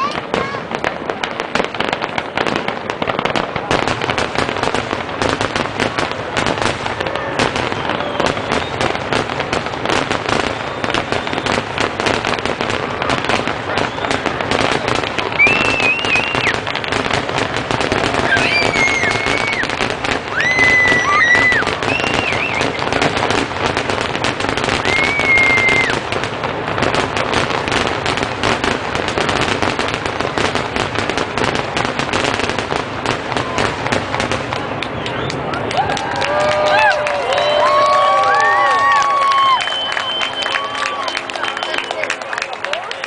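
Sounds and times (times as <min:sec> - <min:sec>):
fireworks bangs and crackling: 0:00.0 - 0:43.0
fireworks shrill whistles: 0:01.5 - 0:32.6, 0:33.4 - 0:35.6, 0:36.6 - 0:42.2.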